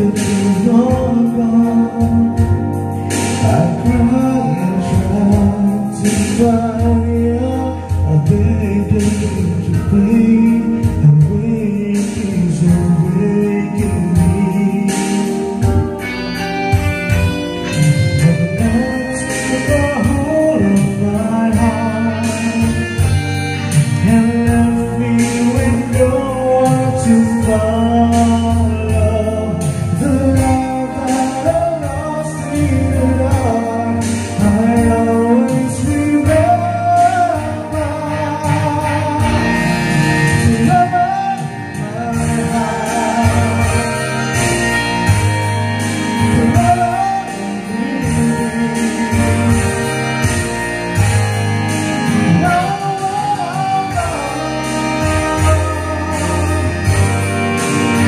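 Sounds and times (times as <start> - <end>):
karaoke backing track: 0.0 - 58.0
person singing: 0.0 - 58.0.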